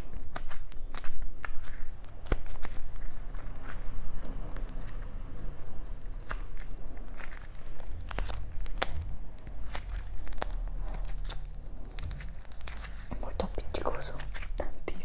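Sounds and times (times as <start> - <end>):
sharp clicks and crackles: 0.0 - 15.0.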